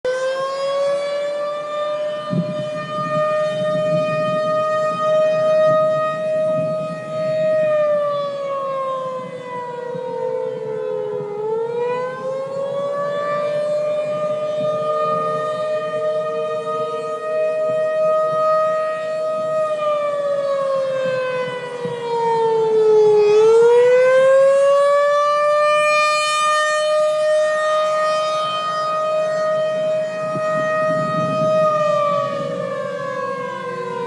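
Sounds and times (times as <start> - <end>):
warning siren wailing: 0.0 - 34.0.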